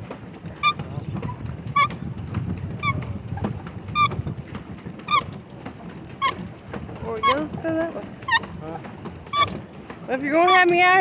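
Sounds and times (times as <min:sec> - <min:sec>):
paddle wheel churning water: 0:00.0 - 0:11.0
pedal drive squeaking: 0:00.5 - 0:02.1, 0:02.7 - 0:11.0.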